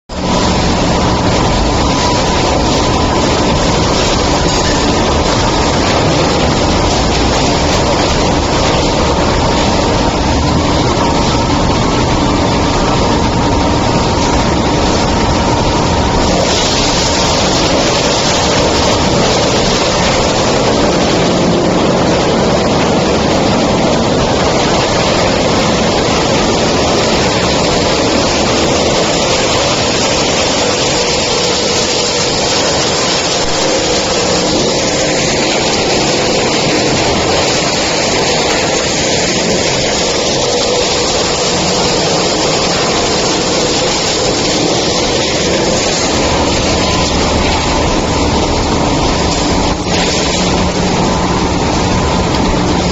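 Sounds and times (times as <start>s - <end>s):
wood chipper running: 0.1s - 52.9s.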